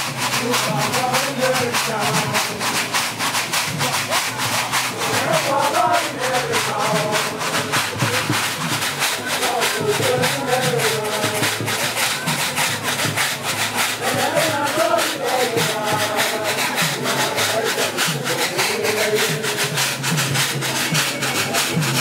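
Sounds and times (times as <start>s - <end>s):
men chanting: 0.0s - 22.0s.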